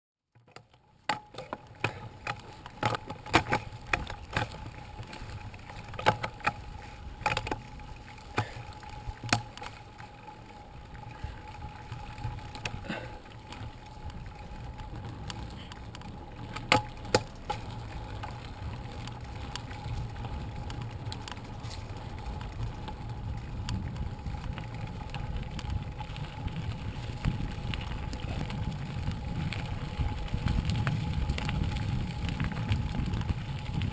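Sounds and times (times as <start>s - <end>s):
bike rattling over bumps: 0.3s - 33.9s
low rumble of tyres: 0.3s - 33.9s.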